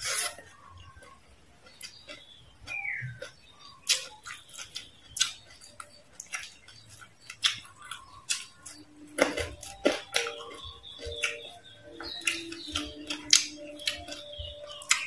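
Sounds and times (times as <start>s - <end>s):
crunching of fried food being chewed: 0.0s - 15.0s.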